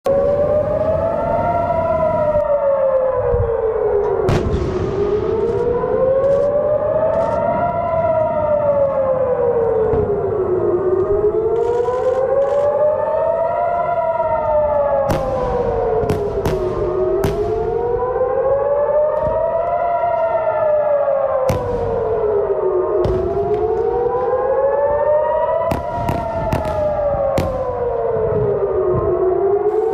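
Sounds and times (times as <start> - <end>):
air-raid siren wailing: 0.0 - 29.9.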